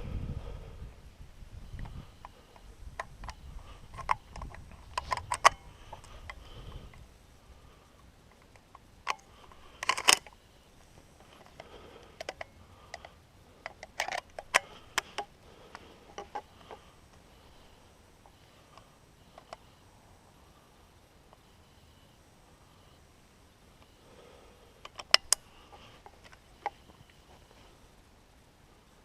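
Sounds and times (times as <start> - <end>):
rustles: 0.0 - 29.0.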